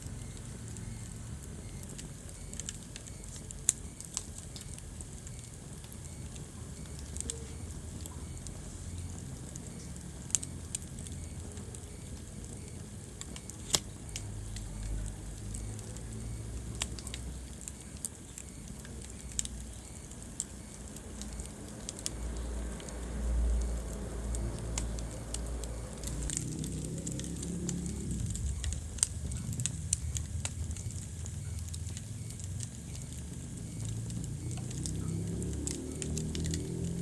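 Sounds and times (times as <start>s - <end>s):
fire crackling and popping: 0.0s - 37.0s
low rumble of flames: 0.0s - 37.0s.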